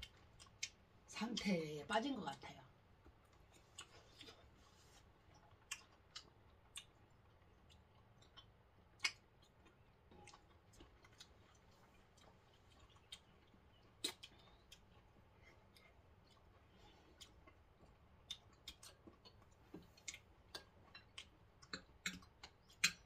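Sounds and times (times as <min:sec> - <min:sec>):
soft chewing: 0:00.0 - 0:01.1, 0:02.3 - 0:23.0.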